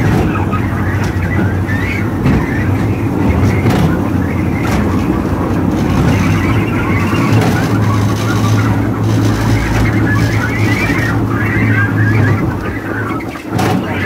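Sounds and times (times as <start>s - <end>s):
locomotive motor hum: 0.0s - 14.0s
train rumbling on track: 0.0s - 14.0s.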